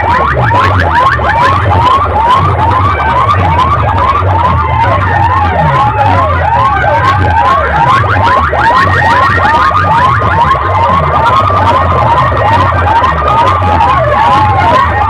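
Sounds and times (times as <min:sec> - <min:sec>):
heavy bass: 0:00.0 - 0:15.0
siren-like whoops on loudspeakers: 0:00.0 - 0:15.0.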